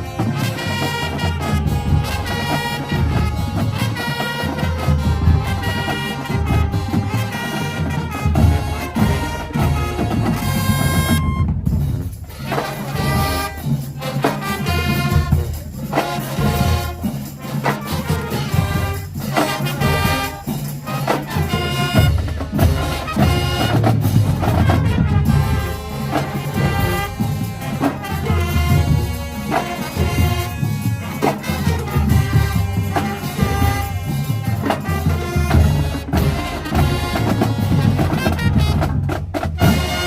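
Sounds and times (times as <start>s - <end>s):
brass horns playing: 0.0s - 40.0s
drumline with bass drums: 0.0s - 40.0s.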